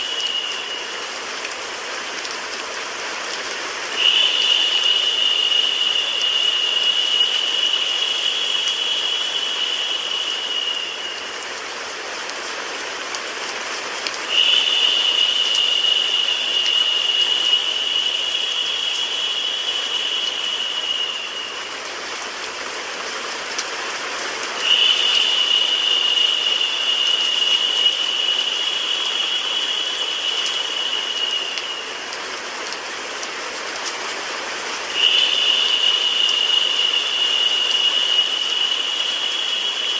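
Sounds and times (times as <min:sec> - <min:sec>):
rain and white noise hiss: 0:00.0 - 0:39.9.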